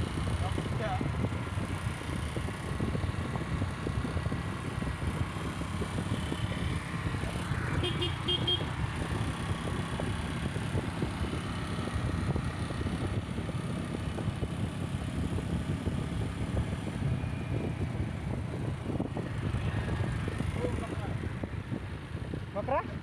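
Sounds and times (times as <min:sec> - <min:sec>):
vehicle and road noise rumbling: 0:00.0 - 0:23.0
wind buffeting microphone: 0:00.0 - 0:23.0.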